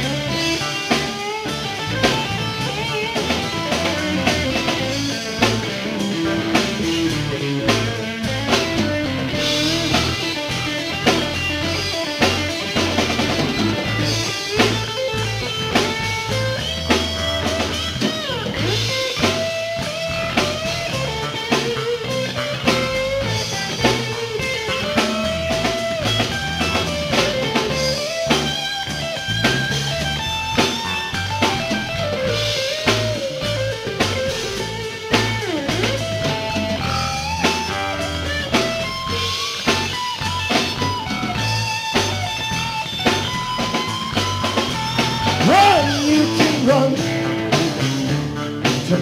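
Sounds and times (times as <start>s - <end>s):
bass guitar: 0.0s - 49.0s
drum kit: 0.0s - 49.0s
electric guitar solo with bent notes: 0.0s - 49.0s.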